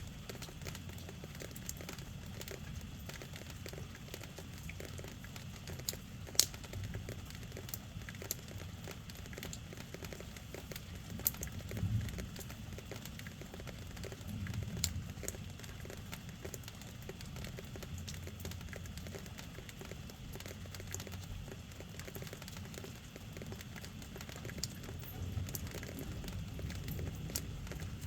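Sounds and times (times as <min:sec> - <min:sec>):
low steady rumble: 0:00.0 - 0:28.0
rain falling: 0:00.0 - 0:28.0
drops ticking on hard surface: 0:00.2 - 0:28.0.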